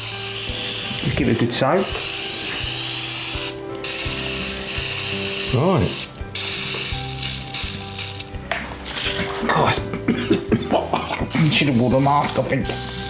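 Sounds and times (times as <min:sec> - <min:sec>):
aerosol can spraying: 0:00.0 - 0:09.3, 0:11.3 - 0:13.0.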